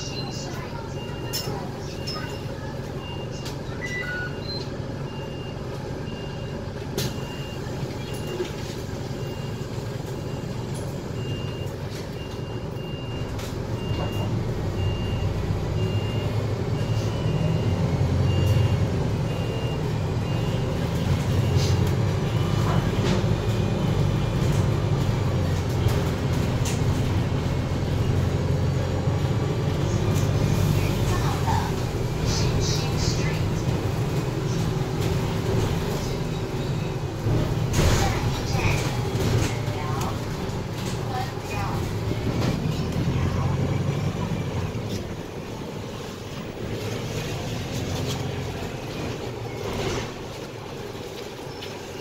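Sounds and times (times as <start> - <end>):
bus engine running: 0.0 - 52.0.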